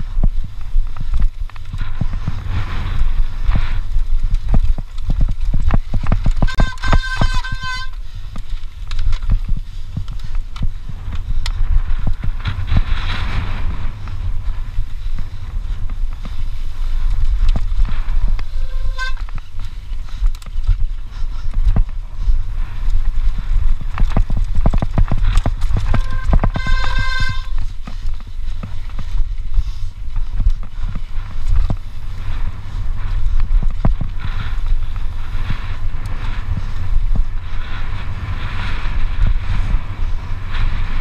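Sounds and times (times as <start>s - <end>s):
bike rattling over ruts: 0.0s - 41.0s
wind buffeting microphone: 0.0s - 41.0s.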